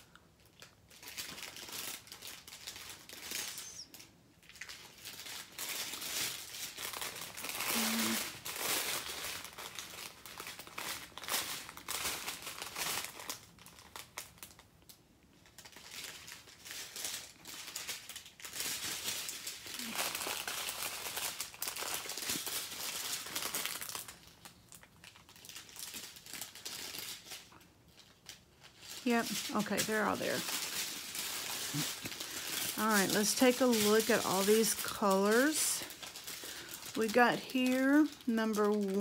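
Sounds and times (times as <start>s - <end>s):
plastic bags crinkling: 0.0s - 39.0s.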